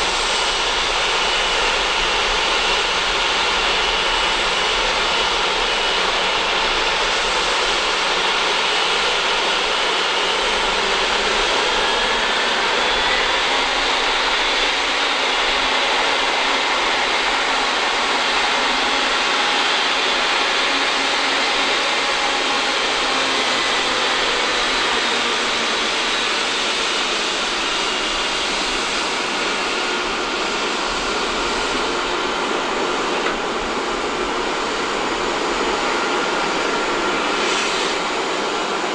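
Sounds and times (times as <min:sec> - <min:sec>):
jet engines at low thrust: 0:00.0 - 0:38.9.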